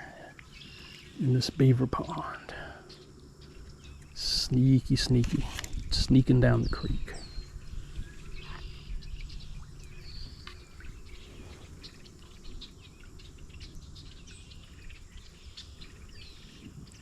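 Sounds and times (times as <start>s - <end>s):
low steady background noise: 0.0s - 17.0s
small birds chirping: 0.0s - 17.0s.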